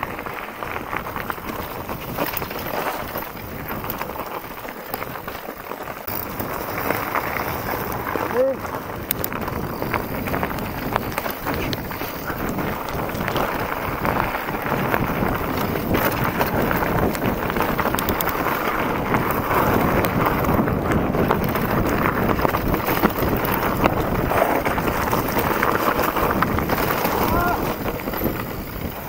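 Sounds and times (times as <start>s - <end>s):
bike rattling and clicking: 0.0s - 29.0s
tyres crunching over stones: 0.0s - 29.0s
wind rush on microphone: 0.0s - 29.0s.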